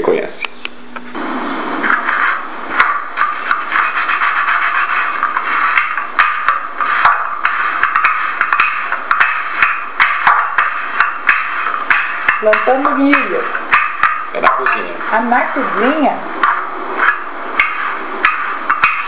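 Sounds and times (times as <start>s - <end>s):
rolling pin scraping dough: 1.8s - 19.0s.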